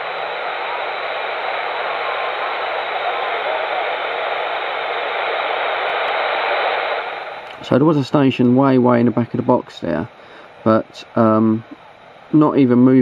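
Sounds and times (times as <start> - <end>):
faint distant radio station: 0.0 - 13.0
radio static hiss: 0.0 - 13.0.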